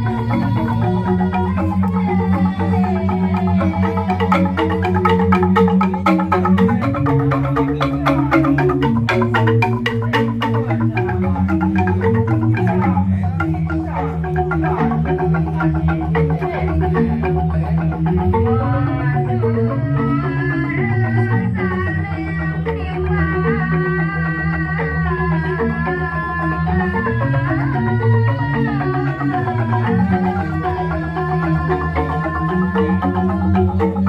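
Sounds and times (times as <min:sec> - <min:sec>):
bamboo xylophone mallet strikes: 0:00.0 - 0:23.7, 0:25.0 - 0:34.0
deep bamboo bass tones: 0:00.0 - 0:34.0.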